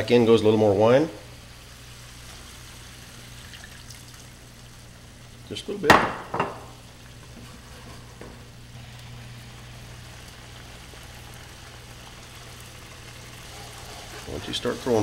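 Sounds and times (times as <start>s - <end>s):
sauce simmering in a skillet: 0.2s - 5.7s, 6.7s - 15.0s.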